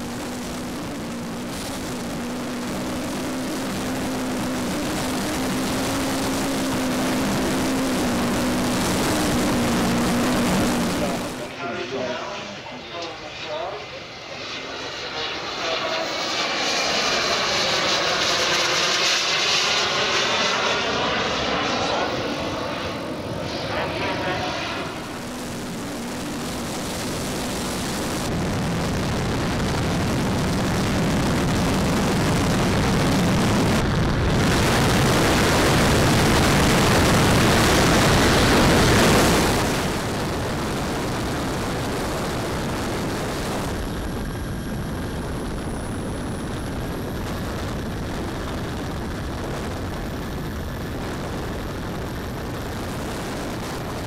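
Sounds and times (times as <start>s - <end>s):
model jet turbines whining: 0.0s - 54.0s.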